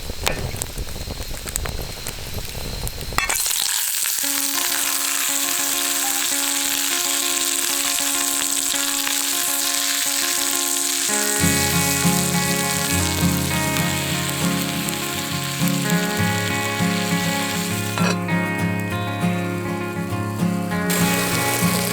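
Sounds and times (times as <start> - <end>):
food sizzling in a pan: 0.0 - 21.9
rough crackling noise: 0.0 - 21.9.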